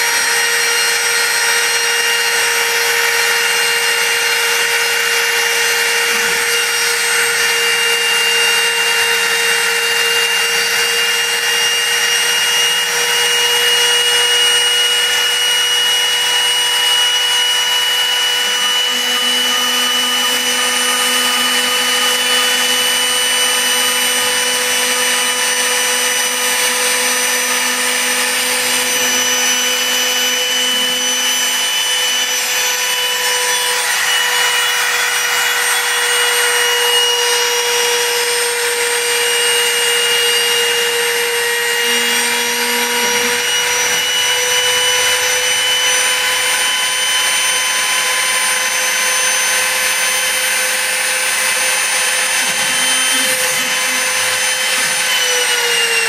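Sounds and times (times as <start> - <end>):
rough wood cutting rasp: 0.0 - 56.0
router spindle whining: 0.0 - 56.0.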